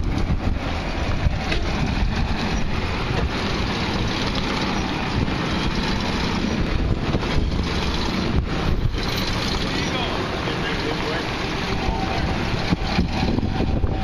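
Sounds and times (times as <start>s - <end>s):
car engine passing slowly: 0.0s - 14.0s.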